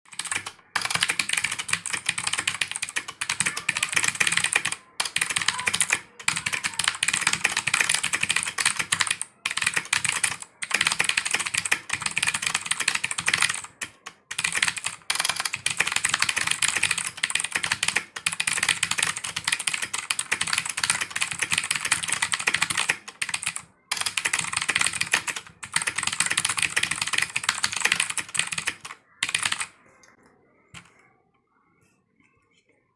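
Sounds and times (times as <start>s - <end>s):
mechanical keyboard typing: 0.1s - 30.9s.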